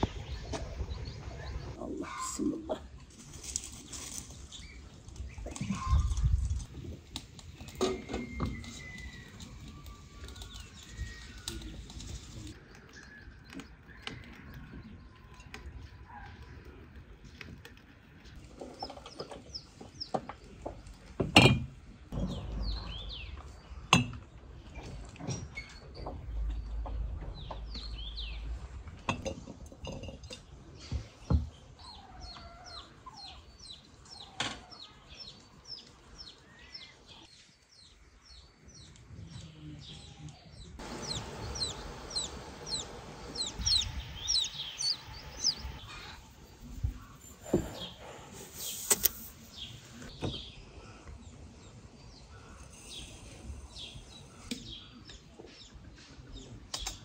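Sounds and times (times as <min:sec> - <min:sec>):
small birds chirping: 0:00.0 - 0:21.2, 0:22.1 - 0:29.2, 0:30.8 - 0:57.0.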